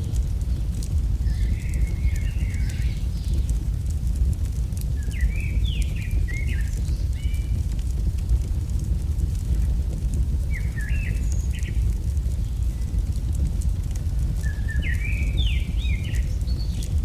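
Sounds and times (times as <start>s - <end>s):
fire rumbling and crackling: 0.0s - 17.0s.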